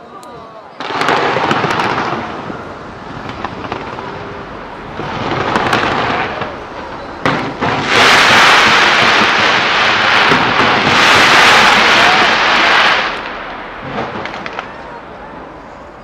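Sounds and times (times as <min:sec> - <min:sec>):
firework bangs: 0:00.8 - 0:15.8
fireworks crackling hiss: 0:00.8 - 0:16.0.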